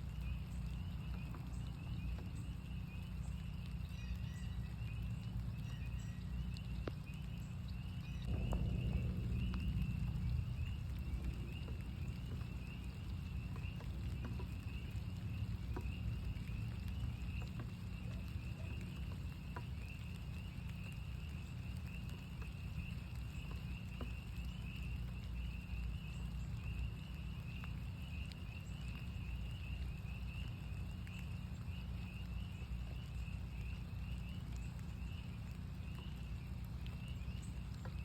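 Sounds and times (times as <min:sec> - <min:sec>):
rain dripping: 0:00.0 - 0:38.0
spring peepers chorus: 0:00.0 - 0:38.0
steady low rumble: 0:00.0 - 0:38.0.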